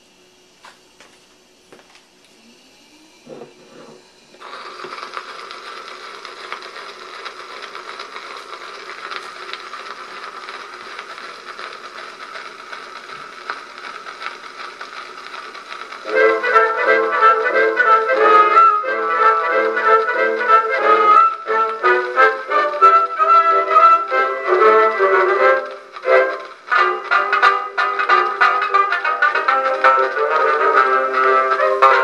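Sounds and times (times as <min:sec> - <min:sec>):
record surface crackly hiss: 0:03.6 - 0:32.0.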